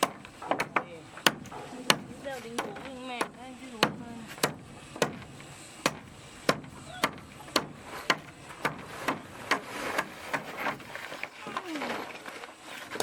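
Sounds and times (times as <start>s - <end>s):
tool striking wood: 0.0s - 11.6s.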